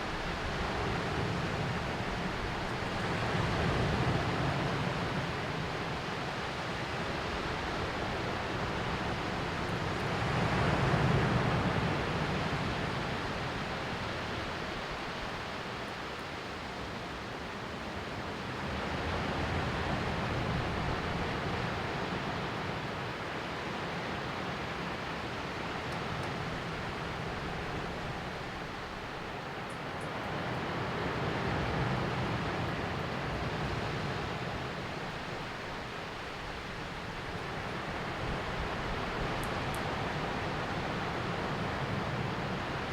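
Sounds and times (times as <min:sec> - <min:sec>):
background surf: 0:00.0 - 0:42.9.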